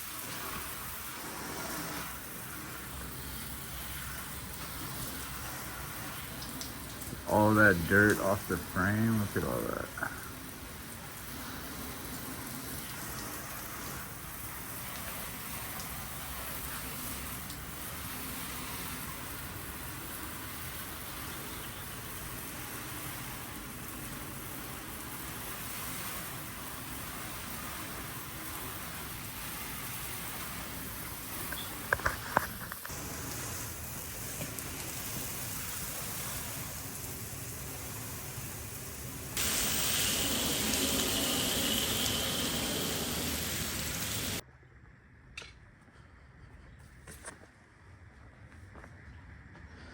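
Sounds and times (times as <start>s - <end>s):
water spraying on a window: 0.0s - 44.4s.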